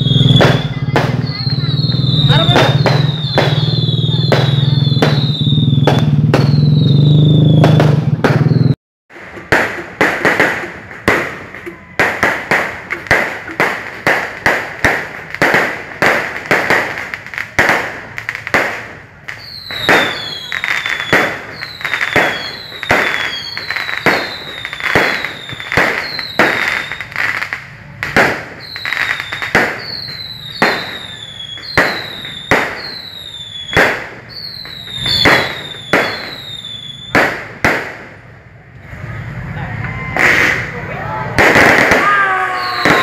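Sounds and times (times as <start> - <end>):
fireworks bangs with whistles: 0.0 - 43.0.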